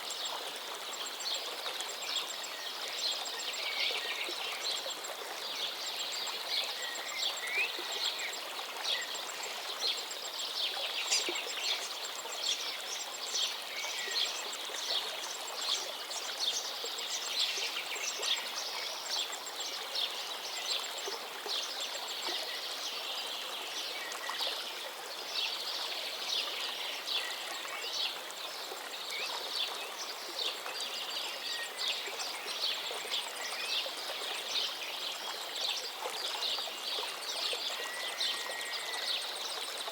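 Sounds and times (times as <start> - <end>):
gently flowing river: 0.0 - 39.9.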